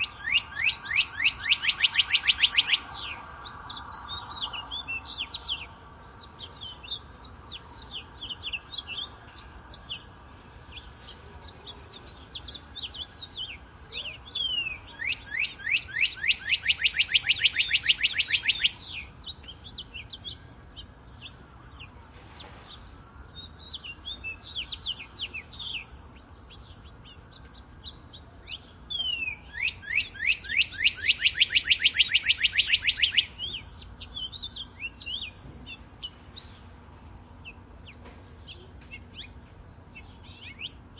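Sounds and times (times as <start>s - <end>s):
bird singing fast trill: 0.0s - 22.0s, 23.1s - 36.6s, 37.4s - 40.9s
songbirds chirping: 0.0s - 40.9s.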